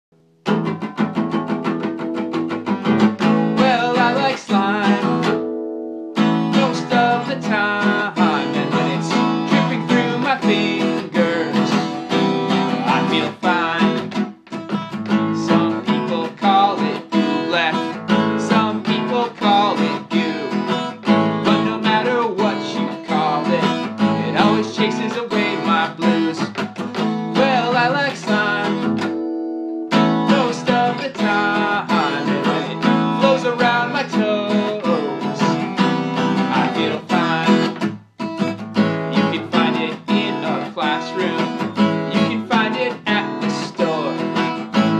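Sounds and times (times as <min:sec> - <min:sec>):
strummed acoustic guitar: 0:00.2 - 0:44.9
person singing: 0:03.2 - 0:05.4, 0:06.2 - 0:29.2, 0:29.9 - 0:37.9, 0:38.8 - 0:44.9.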